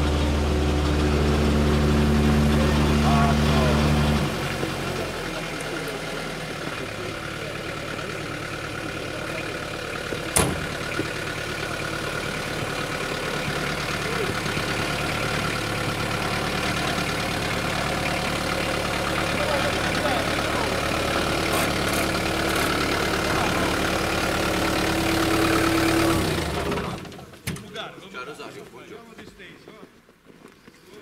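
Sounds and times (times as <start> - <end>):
truck engine running: 0.0 - 27.4.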